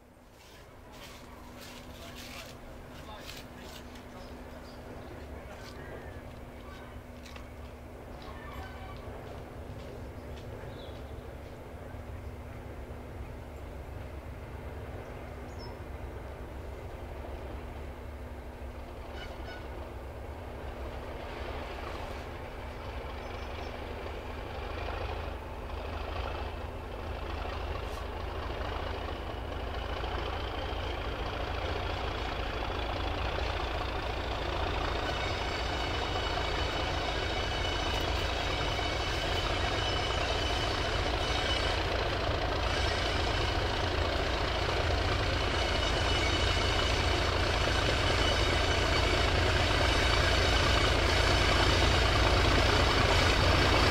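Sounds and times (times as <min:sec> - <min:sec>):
diesel locomotive engine: 0:00.0 - 0:53.9.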